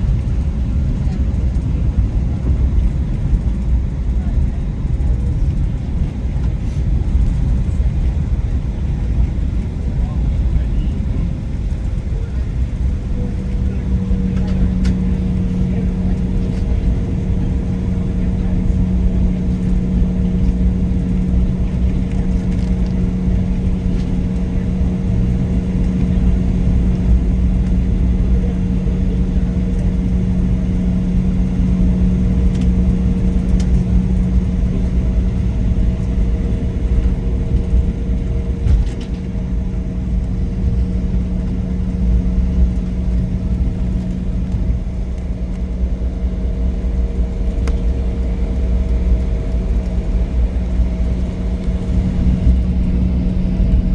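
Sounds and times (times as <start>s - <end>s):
jet cabin drone: 0.0s - 53.9s.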